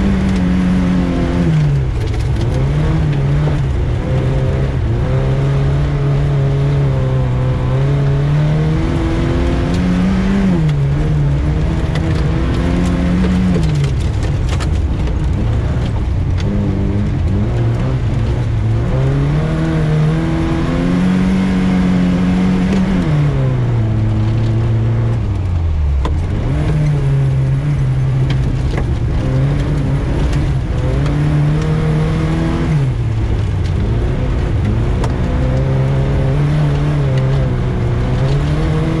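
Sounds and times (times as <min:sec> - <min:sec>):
rally car engine revving: 0:00.0 - 0:39.0
road noise: 0:00.0 - 0:39.0.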